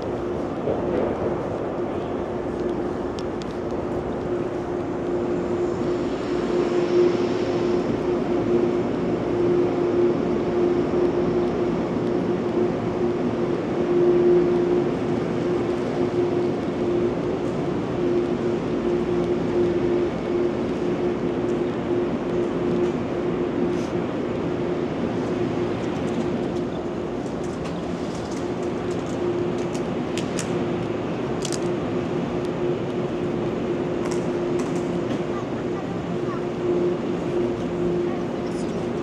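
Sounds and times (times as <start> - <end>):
mechanical drone with hum: 0.0 - 39.0.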